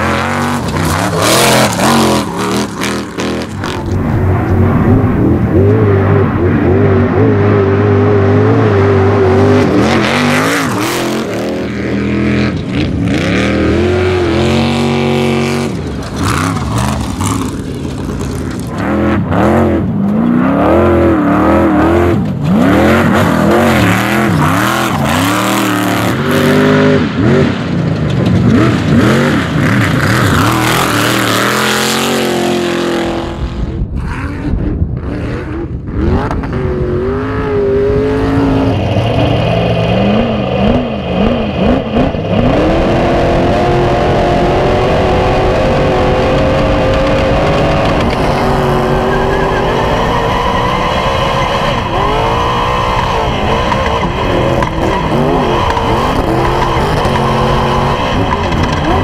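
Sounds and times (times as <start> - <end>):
deep rumbling: 0.0 - 59.0
truck engine revving: 0.0 - 59.0.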